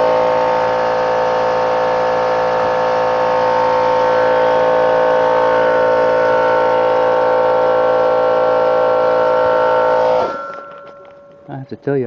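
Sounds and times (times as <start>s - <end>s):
air ratchet whining: 0.0s - 11.5s.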